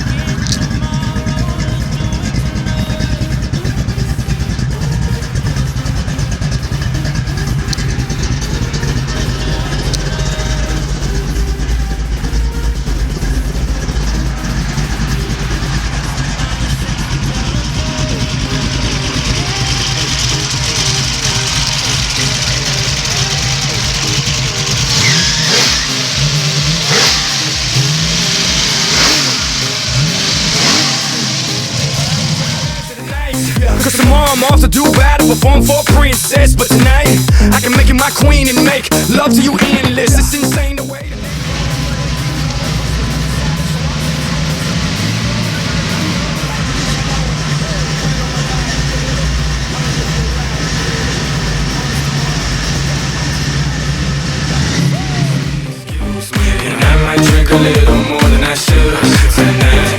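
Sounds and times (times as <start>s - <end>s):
engine exhaust pulsing steadily: 0.0s - 59.9s.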